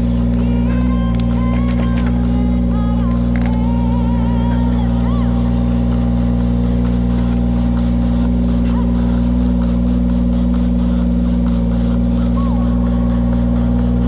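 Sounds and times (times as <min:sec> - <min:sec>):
machine engine droning: 0:00.0 - 0:14.0.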